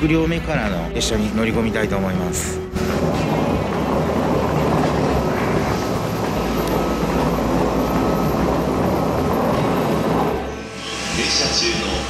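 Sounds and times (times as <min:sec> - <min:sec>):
electric train deep rumbling: 0:00.0 - 0:12.0.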